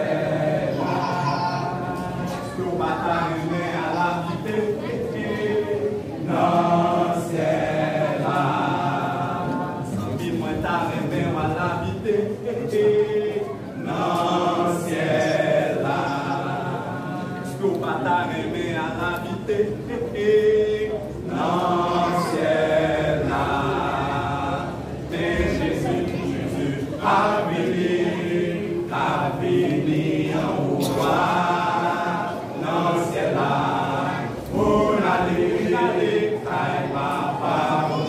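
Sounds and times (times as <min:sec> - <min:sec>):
men singing a cappella in harmony: 0:00.0 - 0:38.0.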